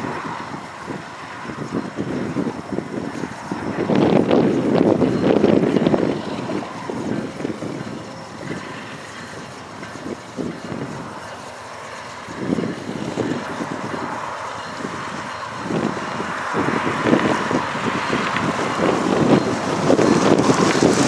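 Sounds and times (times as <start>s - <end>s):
distant freight train rumble: 0.0s - 21.0s
wind buffeting microphone: 0.0s - 21.0s.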